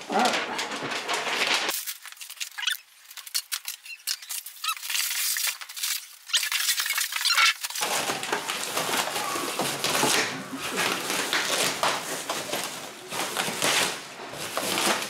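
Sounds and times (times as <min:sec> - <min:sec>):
foam packing squeaking: 0:00.0 - 0:15.0
plastic wrap crinkling: 0:00.0 - 0:15.0.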